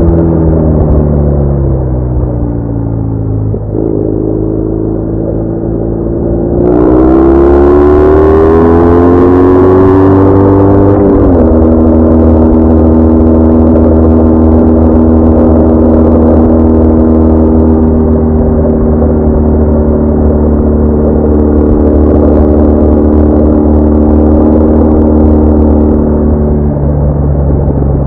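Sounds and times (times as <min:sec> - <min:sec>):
motorcycle engine droning: 0:00.0 - 0:28.0.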